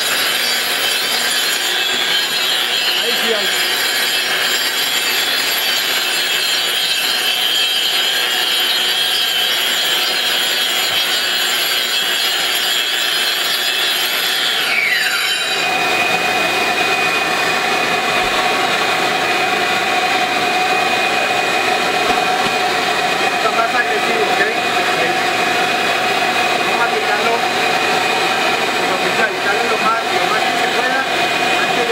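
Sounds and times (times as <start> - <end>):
angle grinder grinding concrete: 0.0 - 31.9
dust extractor humming: 0.0 - 31.9.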